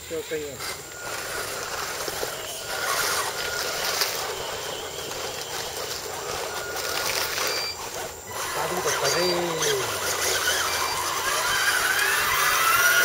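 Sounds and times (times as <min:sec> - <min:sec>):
steady hiss: 0:00.0 - 0:13.0
toy car motor whining: 0:00.2 - 0:13.0.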